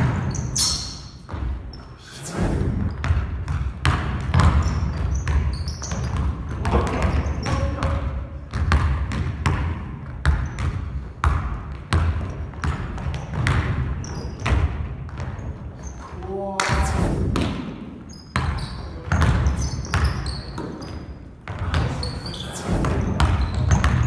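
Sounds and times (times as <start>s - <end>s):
basketball bouncing on wooden floor: 0.0s - 0.6s, 1.2s - 1.8s, 2.6s - 16.1s, 16.7s - 24.0s
sneakers squeaking: 0.0s - 2.0s, 2.7s - 24.0s.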